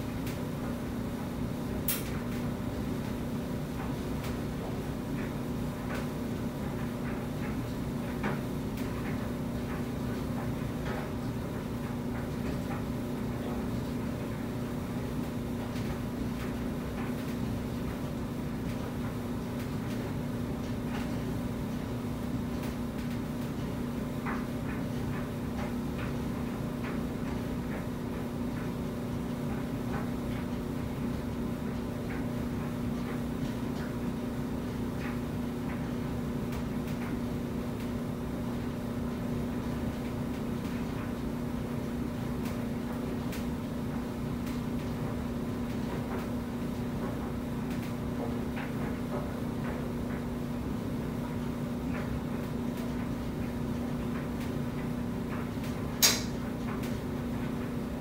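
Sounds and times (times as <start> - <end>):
clothes dryer drum rumbling: 0.0 - 58.0.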